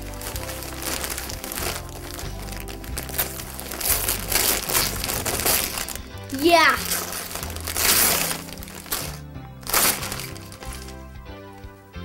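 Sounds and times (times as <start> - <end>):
wrapping paper crinkling and tearing: 0.0 - 11.2
background music: 0.0 - 12.0.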